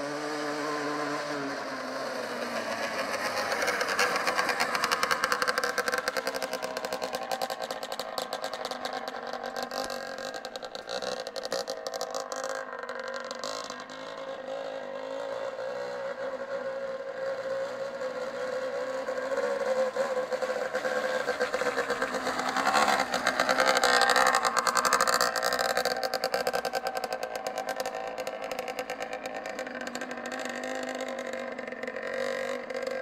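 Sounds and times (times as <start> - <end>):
two-stroke mower engine running: 0.0 - 16.0, 18.2 - 33.0.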